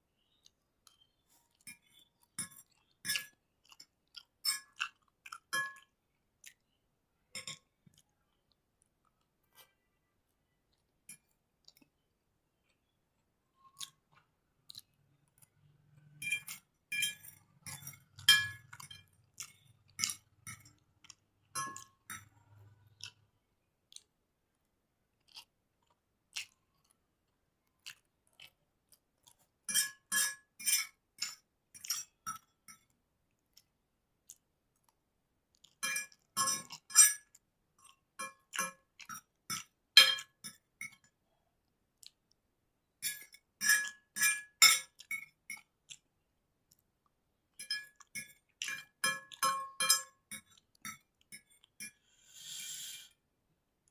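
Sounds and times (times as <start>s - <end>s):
chewing noodles with mouth clicks: 0.2s - 52.4s.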